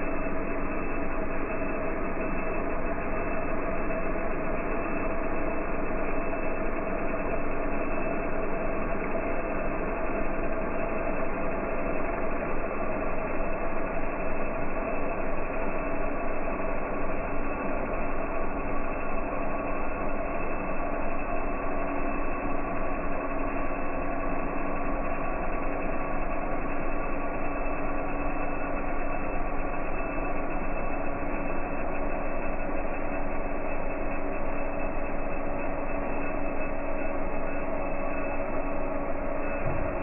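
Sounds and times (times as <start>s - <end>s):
motor hum: 0.0s - 40.0s
printer mechanical whine: 0.4s - 40.0s.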